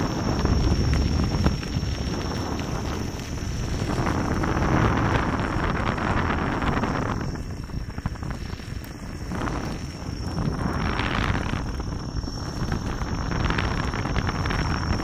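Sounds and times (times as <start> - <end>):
tyre rolling on unpaved path: 0.0 - 15.0
wind rushing over microphone: 0.0 - 15.0.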